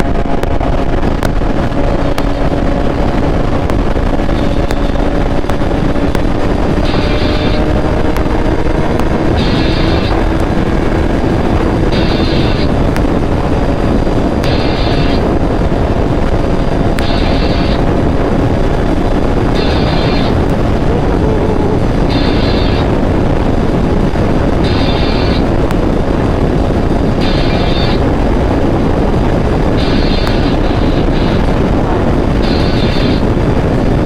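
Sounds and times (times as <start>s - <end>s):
motorcycle engine cruising: 0.0s - 34.0s
wind rush over microphone: 0.0s - 34.0s.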